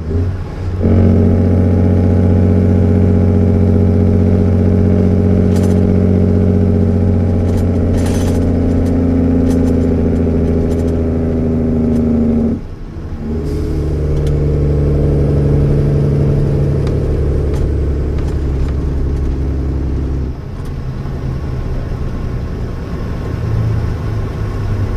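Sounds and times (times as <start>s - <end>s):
diesel truck engine pulling: 0.0s - 24.9s.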